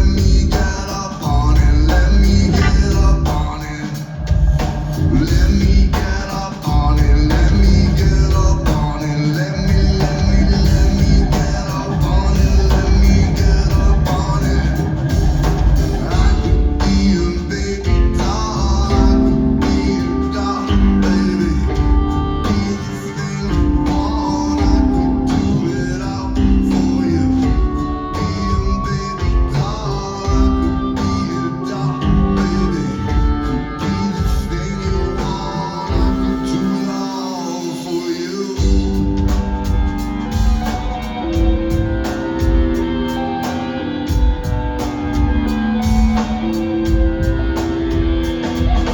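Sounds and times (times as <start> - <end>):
live rock band: 0.0 - 48.9
person singing: 0.0 - 48.9.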